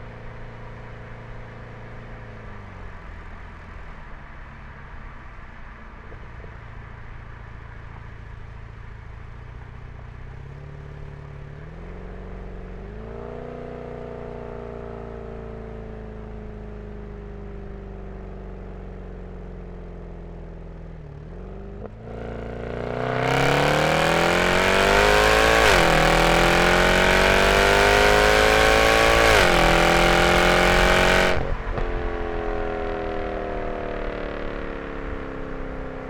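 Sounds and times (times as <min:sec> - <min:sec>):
car exhaust accelerating: 0:00.0 - 0:36.0.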